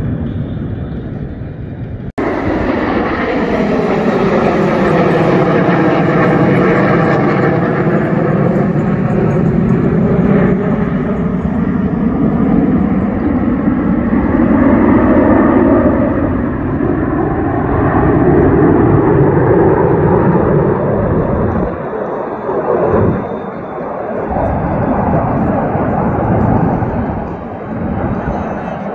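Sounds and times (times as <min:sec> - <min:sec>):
jet engine roar overhead: 0:00.0 - 0:28.9.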